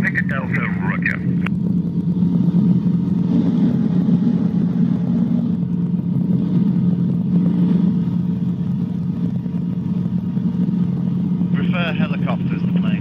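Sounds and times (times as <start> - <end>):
helicopter engine and rotors drone: 0.0 - 13.0.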